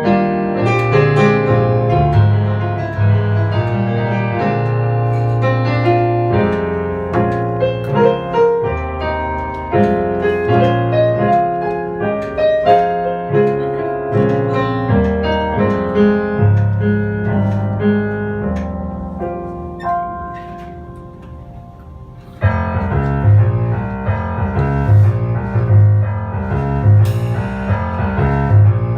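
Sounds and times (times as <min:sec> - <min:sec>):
jazz piano: 0:00.0 - 0:28.9.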